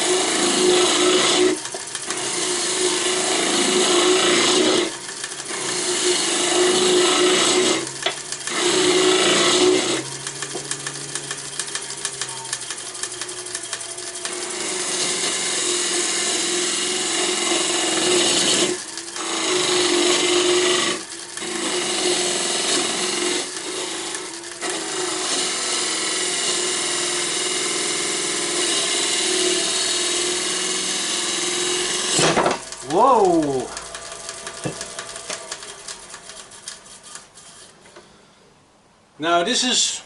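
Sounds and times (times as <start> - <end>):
tool shaving wood hiss: 0.0 - 37.9
lathe hum: 0.0 - 38.3.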